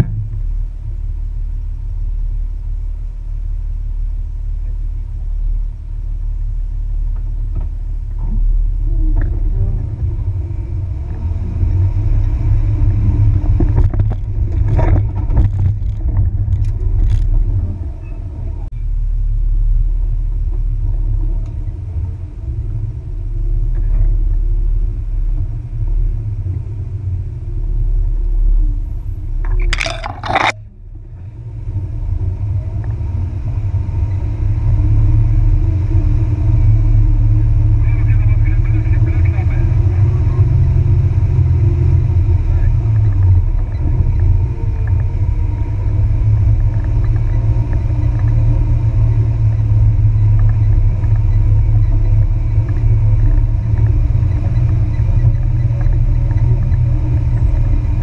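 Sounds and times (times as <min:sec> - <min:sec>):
low engine rumble: 0:00.0 - 0:58.0.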